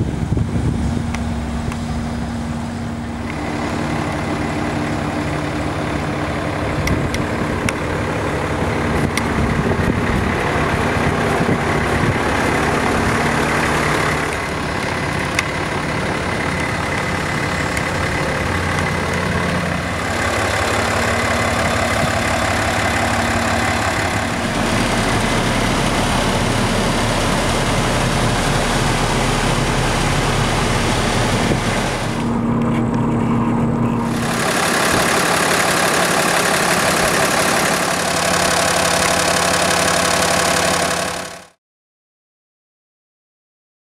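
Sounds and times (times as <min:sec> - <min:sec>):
diesel truck engine idling: 0:00.0 - 0:41.6.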